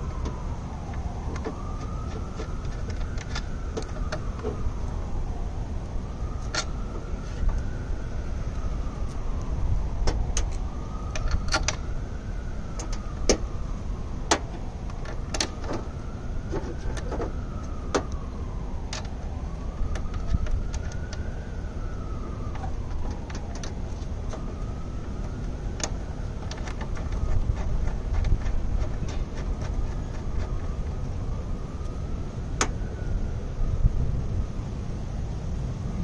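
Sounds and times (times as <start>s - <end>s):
distant siren wailing: 0.0s - 36.0s
steady low rumble: 0.0s - 36.0s.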